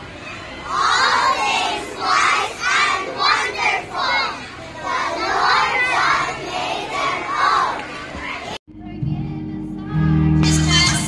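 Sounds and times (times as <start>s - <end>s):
children chanting and shouting: 0.0s - 10.3s.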